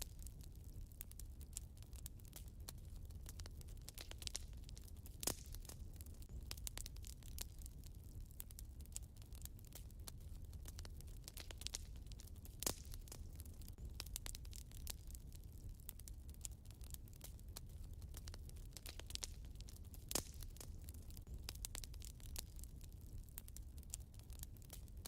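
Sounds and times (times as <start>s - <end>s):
fire popping: 0.0s - 25.0s
wood fire crackling: 0.0s - 25.0s.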